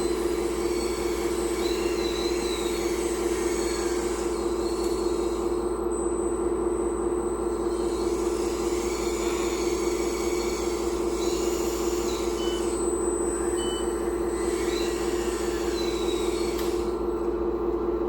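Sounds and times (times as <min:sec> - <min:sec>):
hydraulic pump humming: 0:00.0 - 0:18.0.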